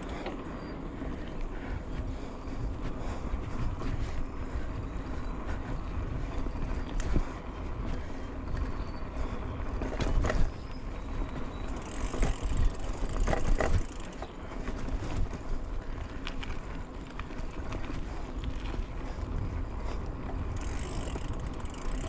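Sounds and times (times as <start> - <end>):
bike rattling over bumps: 0.0 - 22.0
bike tyres rumbling on dirt: 0.0 - 22.0.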